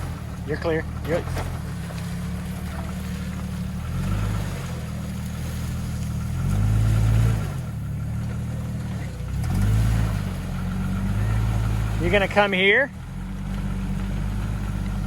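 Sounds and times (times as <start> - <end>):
engine revving at low revs: 0.0 - 15.0.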